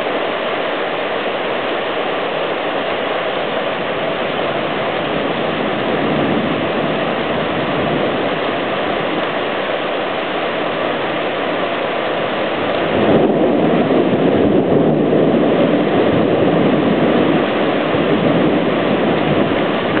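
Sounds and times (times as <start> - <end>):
floodwater rushing through creek: 0.0 - 20.0.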